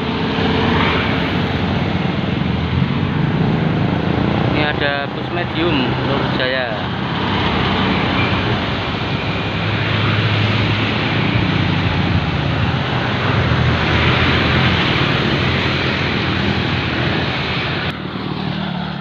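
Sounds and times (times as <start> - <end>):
bus diesel engine droning: 0.0 - 19.0
tyre and road noise: 0.0 - 19.0.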